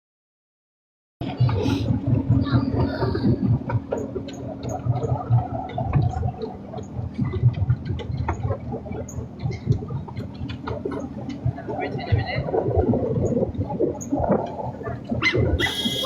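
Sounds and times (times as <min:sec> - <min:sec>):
miniature train rumbling: 0:01.2 - 0:13.0, 0:13.6 - 0:16.0
steady hum: 0:01.2 - 0:16.0
wheels clicking and rattling: 0:01.2 - 0:16.0.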